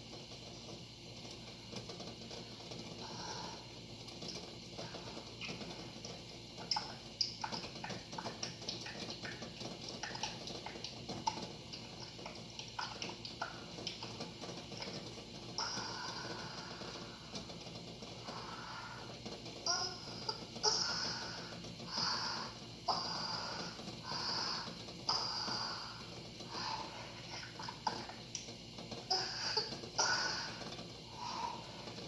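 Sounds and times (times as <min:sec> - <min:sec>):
water boiling with eggs: 0:00.0 - 0:32.0.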